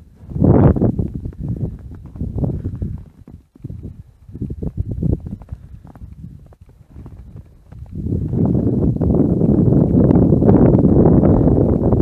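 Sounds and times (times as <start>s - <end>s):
wind rumble on microphone: 0.0s - 12.0s
footsteps on snowy ice: 0.2s - 10.3s.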